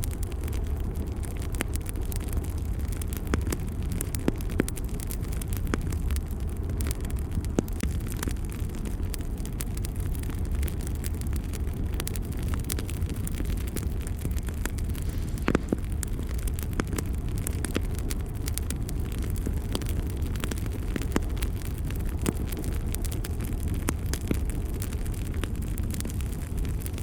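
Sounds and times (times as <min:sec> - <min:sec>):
fire burning rumble: 0:00.0 - 0:27.0
fire crackling and popping: 0:00.0 - 0:27.0.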